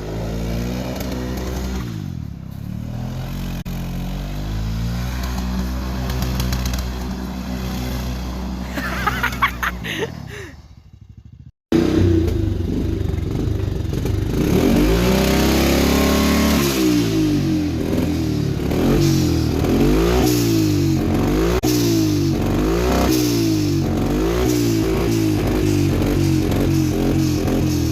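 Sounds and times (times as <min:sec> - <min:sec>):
tractor diesel engine revving: 0:00.0 - 0:27.9.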